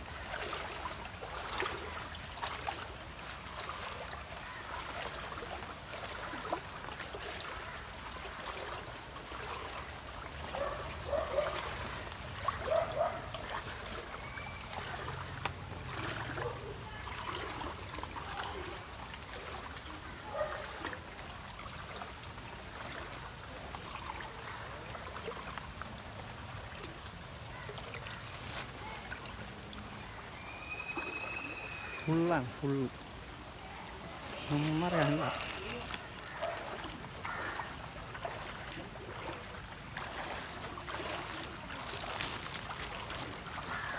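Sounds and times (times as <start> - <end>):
people wading through water: 0.0 - 43.9
water trickling: 0.0 - 43.9.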